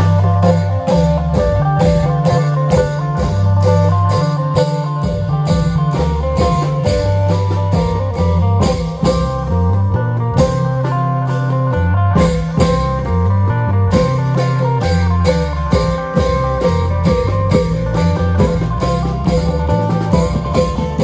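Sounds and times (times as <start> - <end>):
held bass line: 0.0 - 21.0
long drums beating: 0.0 - 21.0
plucked string melody: 0.0 - 21.0.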